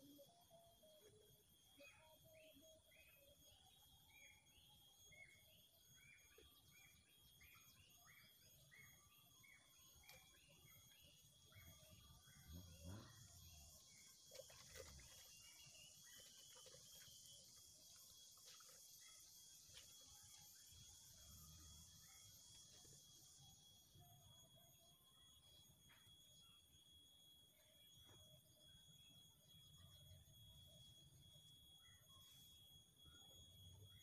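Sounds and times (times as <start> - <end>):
steady thin high tone: 0.0 - 34.0.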